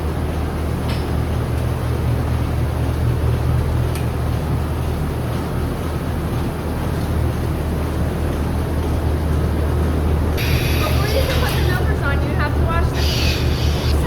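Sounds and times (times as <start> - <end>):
barn machinery humming: 0.0 - 14.0.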